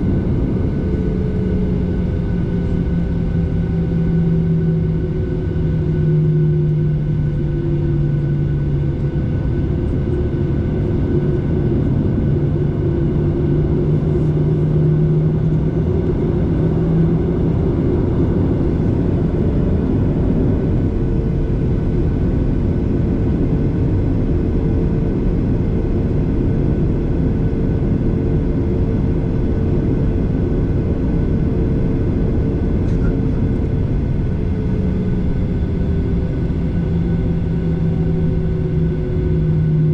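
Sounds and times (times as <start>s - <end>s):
airliner cabin engine drone: 0.0s - 39.9s
strong low hum: 0.0s - 39.9s.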